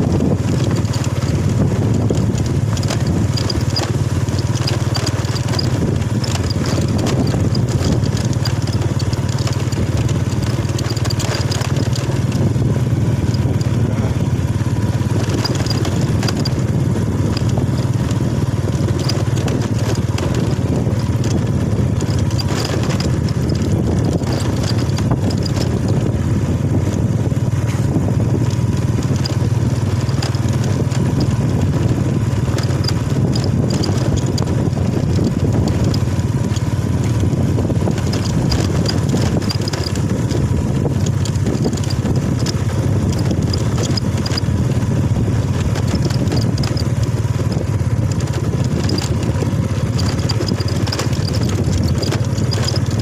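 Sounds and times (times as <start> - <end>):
motorcycle engine running: 0.0 - 53.0
road and wind noise: 0.0 - 53.0.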